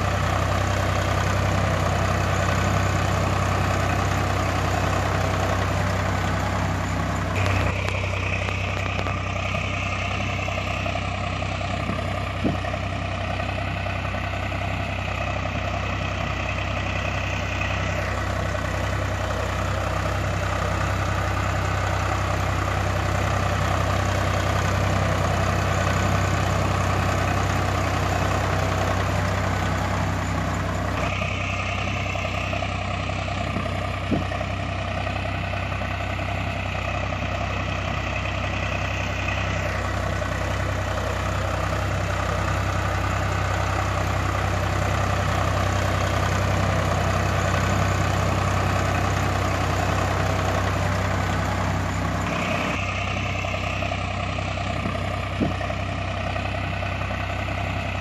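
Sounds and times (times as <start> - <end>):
tractor engine idling: 0.0 - 58.0
higher whine: 1.5 - 21.3, 23.9 - 42.9, 46.1 - 58.0.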